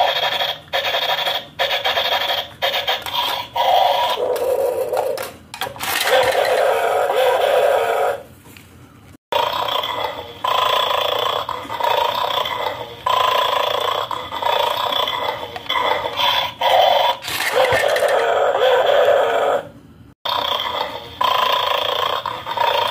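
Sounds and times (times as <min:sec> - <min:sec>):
recorded dog growls from toy speaker: 0:00.0 - 0:08.2, 0:09.3 - 0:19.7, 0:20.3 - 0:22.9.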